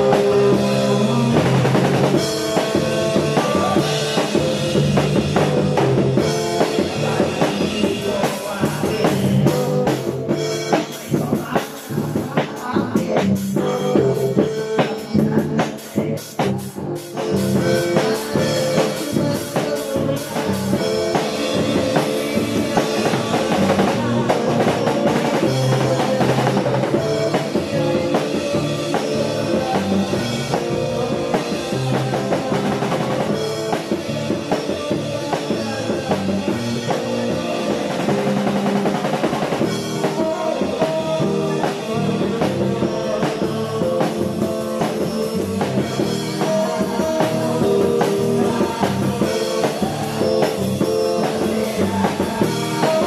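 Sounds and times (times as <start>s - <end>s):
drum kit with cymbals: 0.0s - 53.0s
recorded song: 0.0s - 53.0s.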